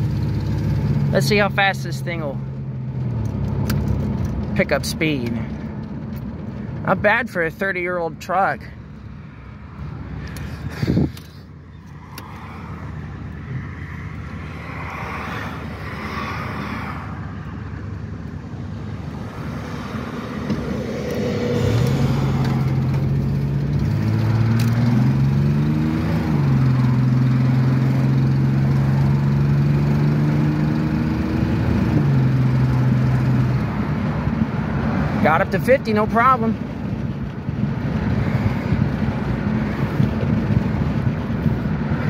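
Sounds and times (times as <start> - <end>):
engine pulling hard under acceleration: 0.0 - 42.0
road and wind noise: 0.0 - 42.0.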